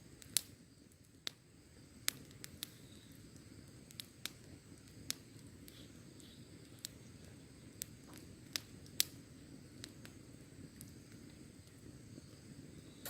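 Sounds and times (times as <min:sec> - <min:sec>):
hiss of burning: 0:00.0 - 0:13.0
wood fire popping and snapping: 0:00.0 - 0:13.0.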